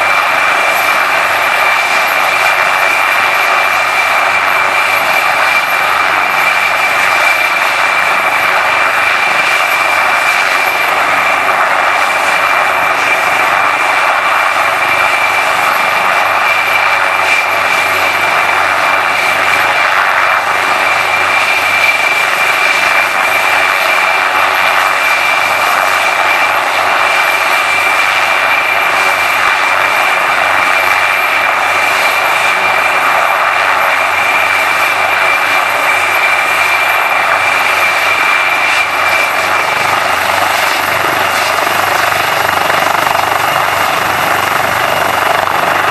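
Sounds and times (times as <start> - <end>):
helicopter turbine whine and rotors: 0.0 - 45.9.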